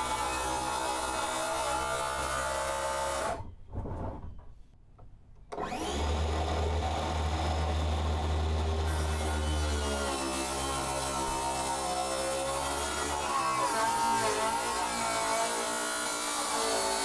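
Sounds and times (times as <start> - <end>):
circular saw cutting wood: 0.0 - 3.4, 5.6 - 17.0.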